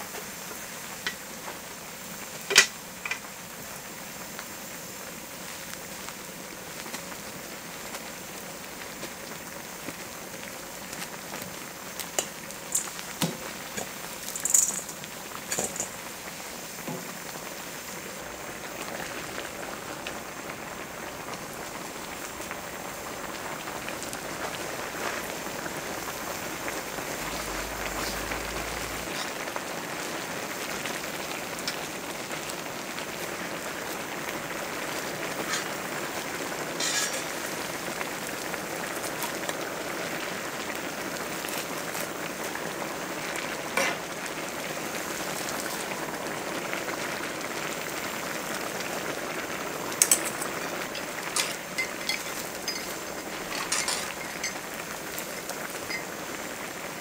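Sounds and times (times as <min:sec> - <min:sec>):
rain falling: 0:05.3 - 0:57.0.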